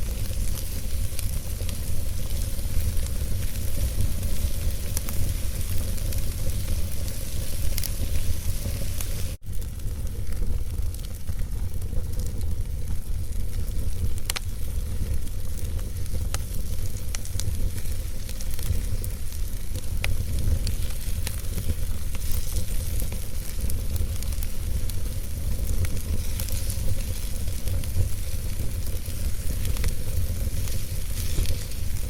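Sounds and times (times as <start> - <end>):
fire crackles and pops: 0.0 - 32.0
fire rumbling and hissing: 0.0 - 32.0.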